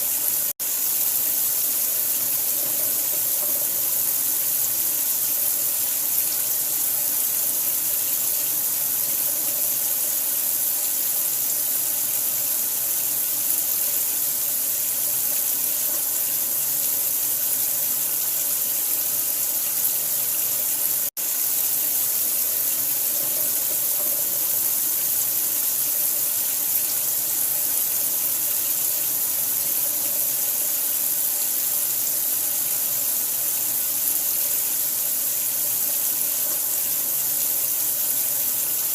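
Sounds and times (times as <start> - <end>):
running water hissing: 0.0 - 38.9.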